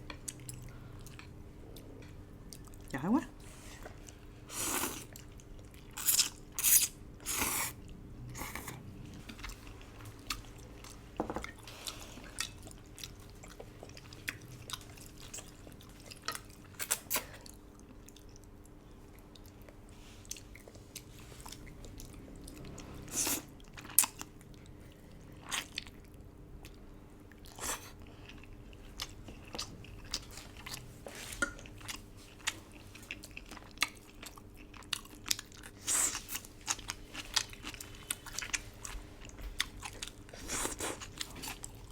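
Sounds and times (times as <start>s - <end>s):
faint steady hum: 0.0s - 41.9s
person chewing food: 3.8s - 41.9s.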